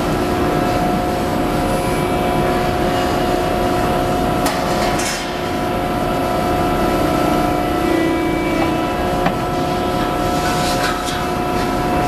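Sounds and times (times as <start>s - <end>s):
hydraulic power unit humming: 0.0s - 12.0s.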